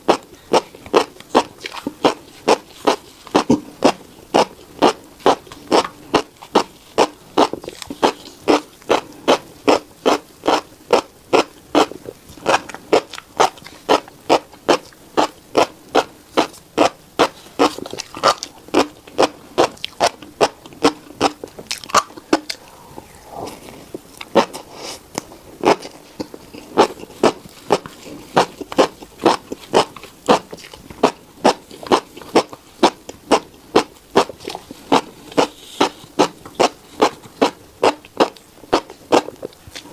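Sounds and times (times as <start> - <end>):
chewing crunchy seeds: 0.0 - 39.9.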